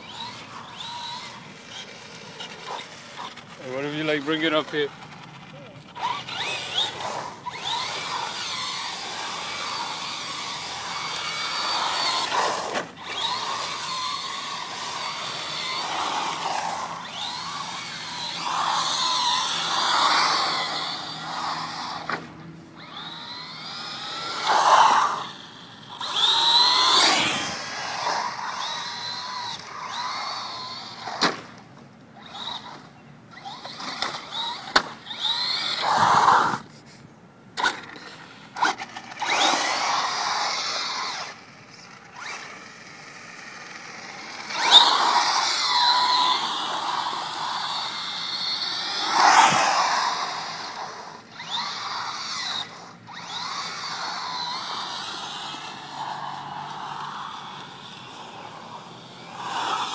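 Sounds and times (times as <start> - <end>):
rc car electric motor whining: 0.0 - 37.0, 37.6 - 59.9.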